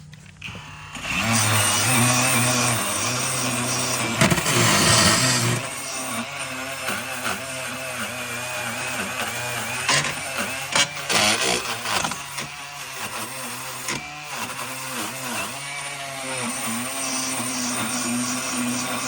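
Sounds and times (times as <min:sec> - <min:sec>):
power tool motor cutting metal: 0:00.0 - 0:19.0.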